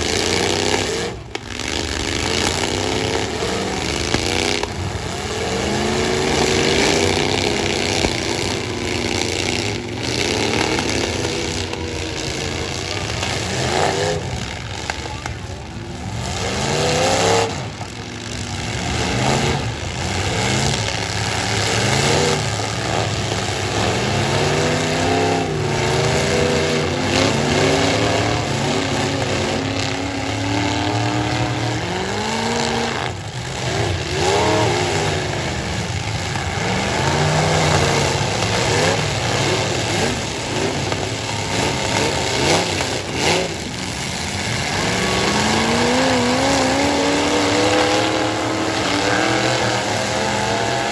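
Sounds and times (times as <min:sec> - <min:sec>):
truck engines revving hard: 0:00.0 - 0:50.9.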